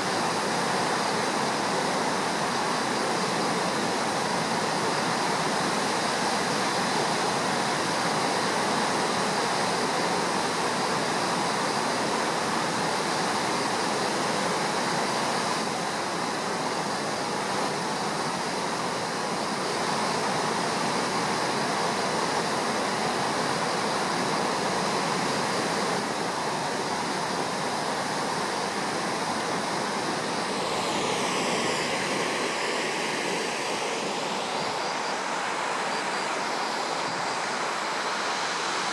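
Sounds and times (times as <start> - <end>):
faint gliding whine: 0.0 - 38.9
flooded river roaring: 0.0 - 38.9.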